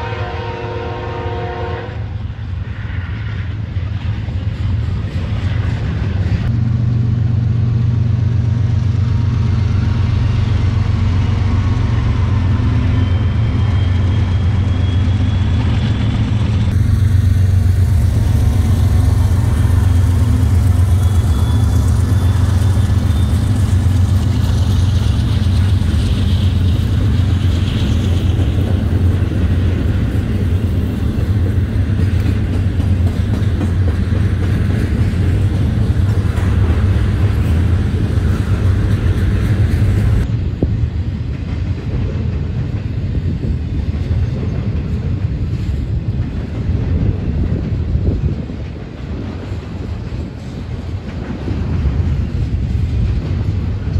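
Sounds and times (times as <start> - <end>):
locomotive engine drone: 0.0 - 53.9
train cars rolling past: 0.0 - 53.9.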